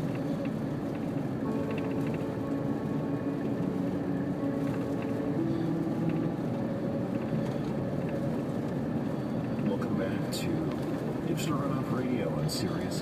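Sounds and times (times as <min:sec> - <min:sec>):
slow song on car radio: 0:00.0 - 0:13.0
vehicle cabin noise: 0:00.0 - 0:13.0.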